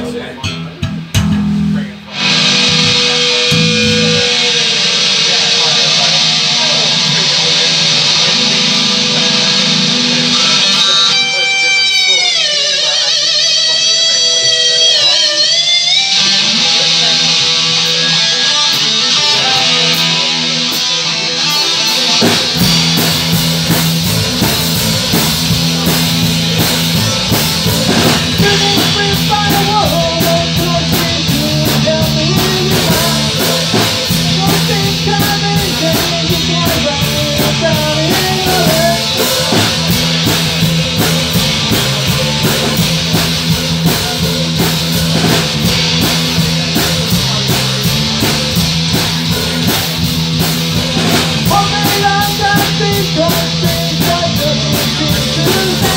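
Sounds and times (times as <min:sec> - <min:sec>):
distorted electric guitars: 0:00.0 - 0:55.9
drum kit: 0:00.0 - 0:55.9
wavering guitar lead line: 0:00.0 - 0:55.9.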